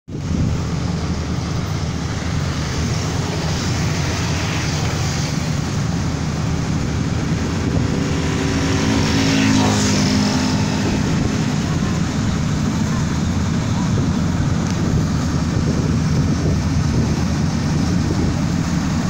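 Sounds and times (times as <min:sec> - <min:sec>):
combine harvester engine drone: 0:00.1 - 0:19.0
rushing noise: 0:00.1 - 0:19.0.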